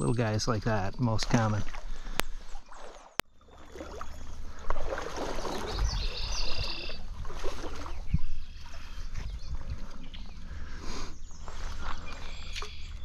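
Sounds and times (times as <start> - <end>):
stream water splashing: 0.5 - 13.0.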